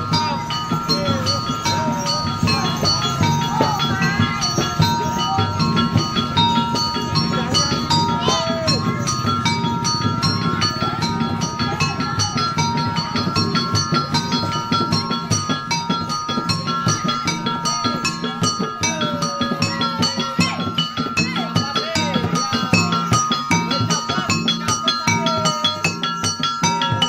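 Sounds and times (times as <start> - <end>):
drum beaten fast: 0.0 - 27.0
metal gongs ringing: 0.0 - 27.0.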